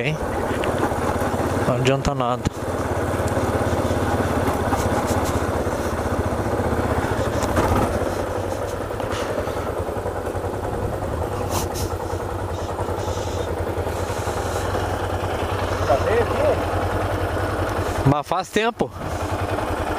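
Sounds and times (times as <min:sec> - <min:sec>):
motorcycle engine at low speed: 0:00.0 - 0:19.9.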